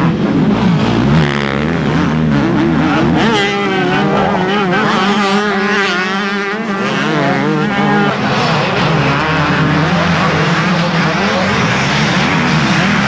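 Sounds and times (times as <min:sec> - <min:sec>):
motocross motorcycle engines racing: 0:00.0 - 0:13.0.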